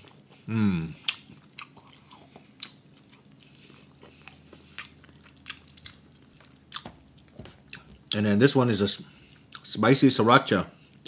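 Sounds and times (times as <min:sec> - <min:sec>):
person chewing food: 0:00.0 - 0:08.2, 0:09.0 - 0:09.7.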